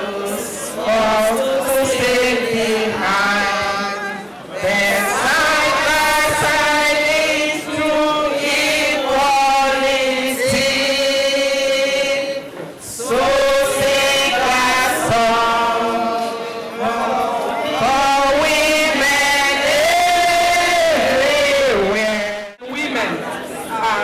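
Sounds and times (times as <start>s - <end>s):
women singing together: 0.0s - 22.6s.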